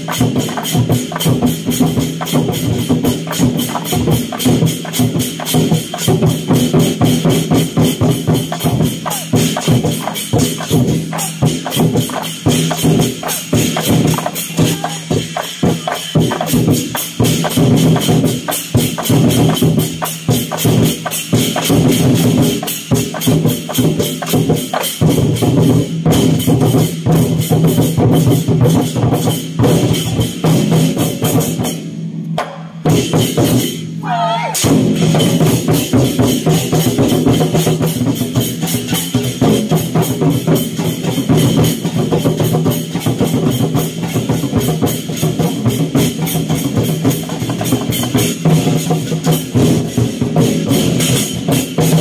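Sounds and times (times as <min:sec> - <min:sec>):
ringing percussion: 0:00.0 - 0:31.9, 0:32.9 - 0:52.0
barrel drums beaten with sticks: 0:00.0 - 0:52.0.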